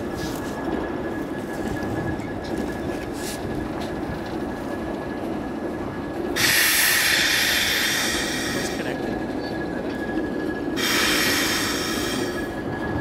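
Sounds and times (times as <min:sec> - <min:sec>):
diesel locomotive rumbling: 0:00.0 - 0:13.0
steel wheels on rail: 0:00.0 - 0:13.0
thin steady whine: 0:00.0 - 0:13.0.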